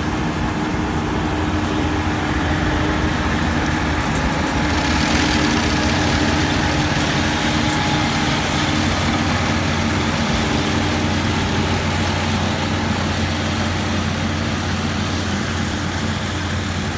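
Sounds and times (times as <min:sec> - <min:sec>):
combine harvester engine humming: 0:00.0 - 0:16.9.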